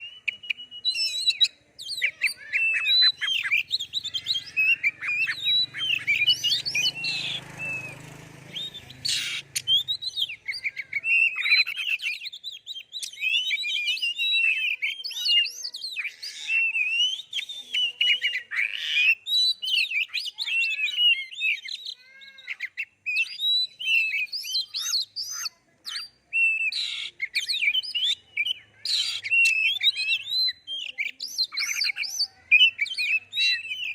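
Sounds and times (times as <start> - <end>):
songbird whistles and chirps: 0.0 - 33.9.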